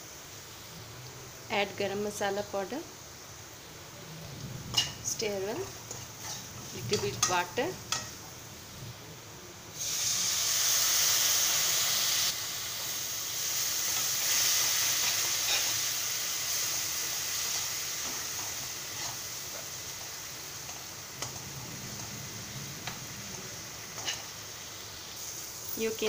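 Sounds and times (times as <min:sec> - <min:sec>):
water hissing in hot oil: 0:00.0 - 0:26.0.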